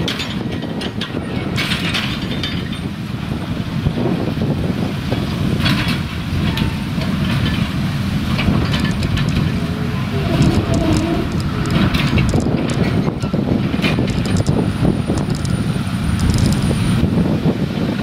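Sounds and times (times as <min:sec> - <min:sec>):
wheels and couplings clacking: 0:00.0 - 0:03.1, 0:05.1 - 0:16.7
railway wagons rumbling: 0:00.0 - 0:18.0.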